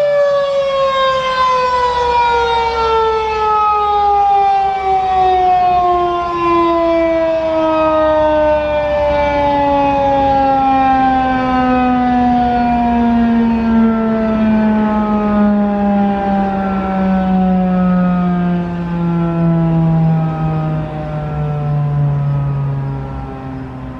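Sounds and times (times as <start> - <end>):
warning siren winding down: 0.0 - 23.9.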